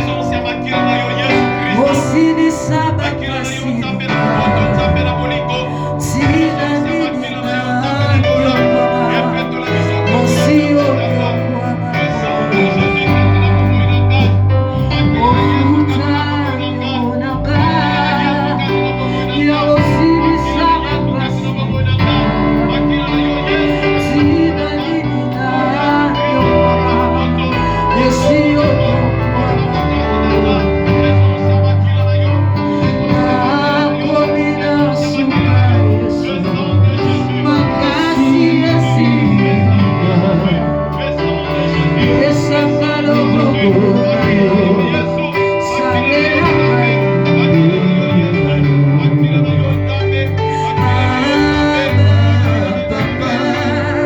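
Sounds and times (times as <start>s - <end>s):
low bass line: 0.0s - 54.0s
voices singing: 0.0s - 54.0s.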